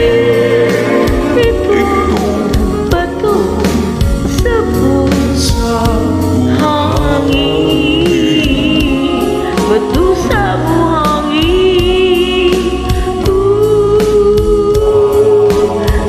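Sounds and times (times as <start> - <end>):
backing track beat and bass: 0.0 - 16.0
person singing with vibrato: 0.0 - 16.0.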